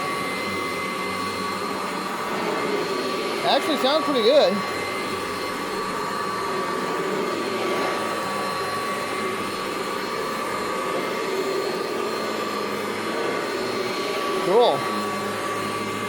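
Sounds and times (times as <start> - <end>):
vacuum cleaner motor whining: 0.0 - 16.0.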